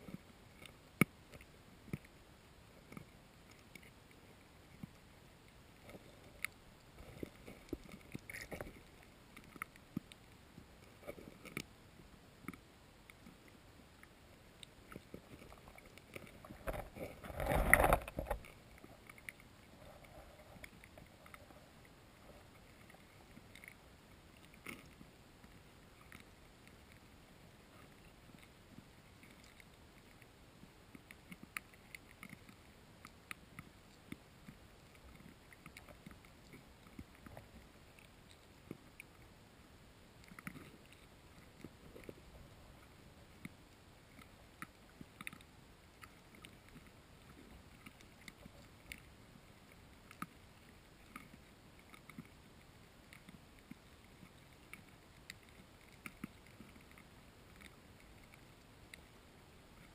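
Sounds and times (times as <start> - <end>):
underwater clicks and ticks: 0.0 - 59.9.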